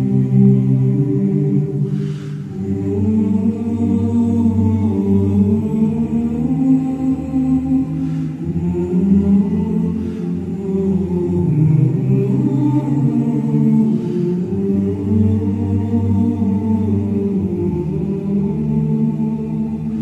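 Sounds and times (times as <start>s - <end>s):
choir singing low chords: 0.0s - 20.0s.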